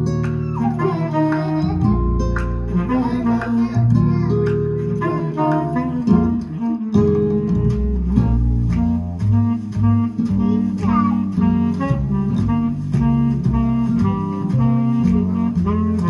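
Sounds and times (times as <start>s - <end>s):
bass line: 0.0s - 16.0s
plucked guitar notes: 0.0s - 16.0s.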